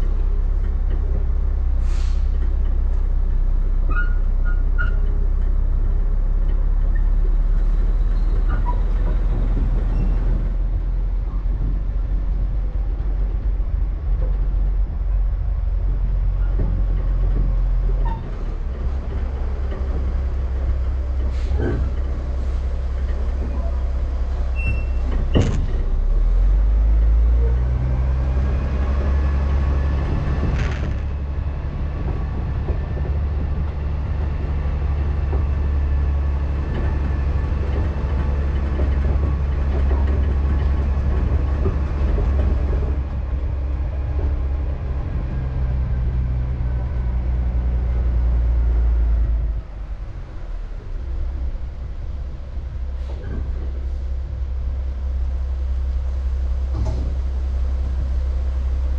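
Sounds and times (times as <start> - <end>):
diesel truck engine droning: 0.0 - 58.9.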